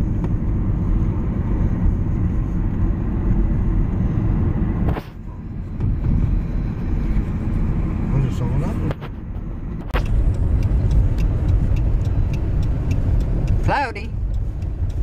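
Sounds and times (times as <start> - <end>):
tyre and engine rumble: 0.0 - 15.0.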